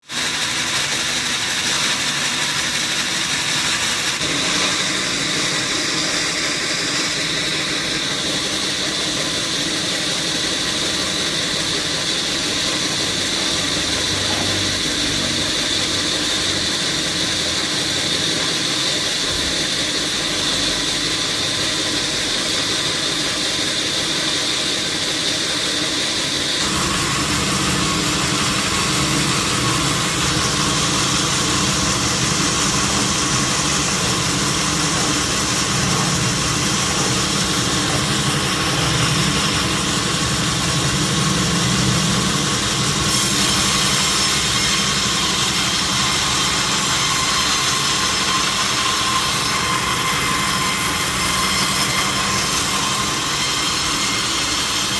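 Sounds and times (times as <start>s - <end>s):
sawmill machinery humming and whining: 0.0s - 54.9s.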